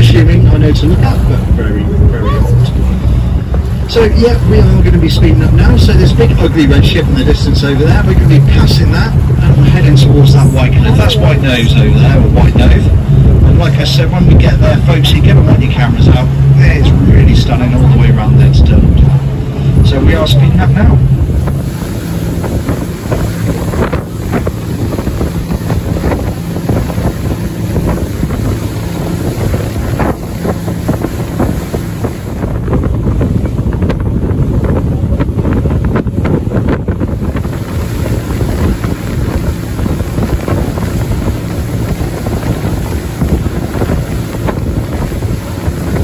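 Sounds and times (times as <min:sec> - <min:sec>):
boat engine drone: 0:00.0 - 0:46.0
hull slapping water: 0:00.0 - 0:46.0
rushing water: 0:00.0 - 0:46.0
wind buffeting microphone: 0:00.0 - 0:46.0.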